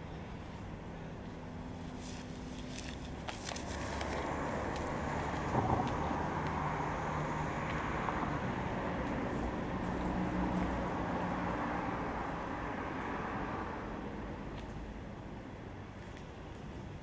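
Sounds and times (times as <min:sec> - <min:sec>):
traffic engine and tyre rumble: 0:00.0 - 0:17.0.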